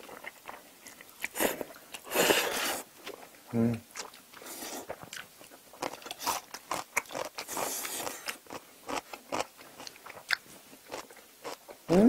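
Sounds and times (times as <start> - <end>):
crunching and chewing food: 0.0 - 12.0.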